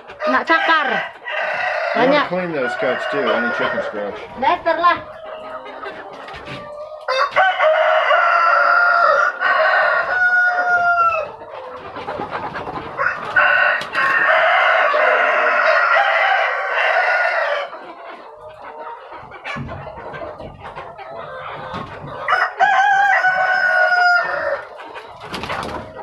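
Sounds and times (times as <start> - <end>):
chickens calling loudly: 0.0 - 26.0.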